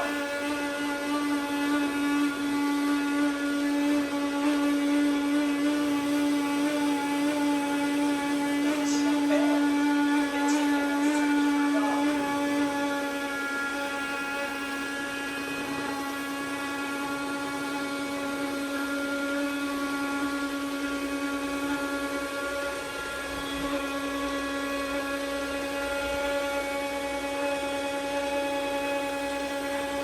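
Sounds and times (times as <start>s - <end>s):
robot vacuum droning whine: 0.0s - 30.0s.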